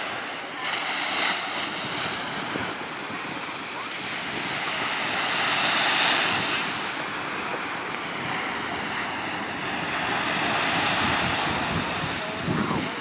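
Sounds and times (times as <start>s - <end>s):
waves washing onto sand: 0.0s - 13.0s.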